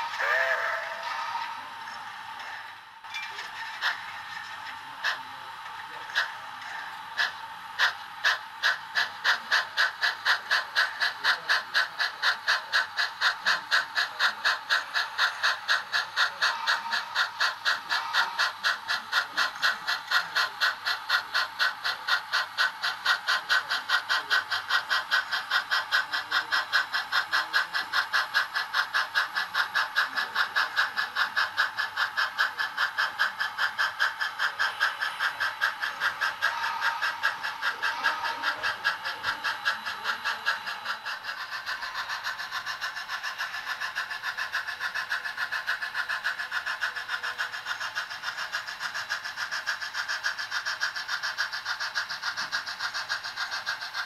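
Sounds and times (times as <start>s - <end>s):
model steam locomotive chuffing: 0.0s - 54.0s.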